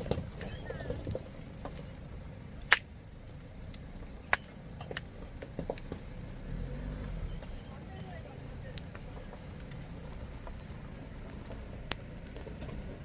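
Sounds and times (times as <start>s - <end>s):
campfire wood crackling: 0.0s - 13.0s
low steady rumble: 0.0s - 13.0s.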